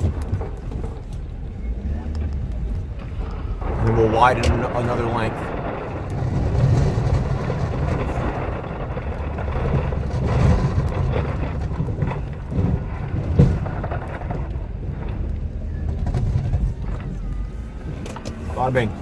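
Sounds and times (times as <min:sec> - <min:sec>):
diesel pickup engine rumbling: 0:00.0 - 0:19.0.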